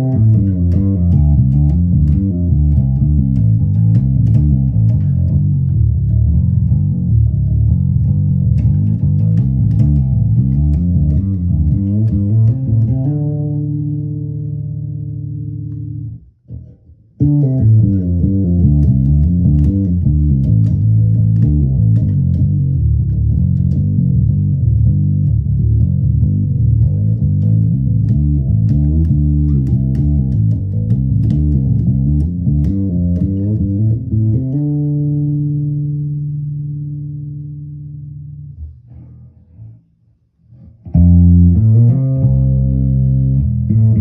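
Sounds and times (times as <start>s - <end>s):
fretless electric bass plucked: 0.0s - 44.0s.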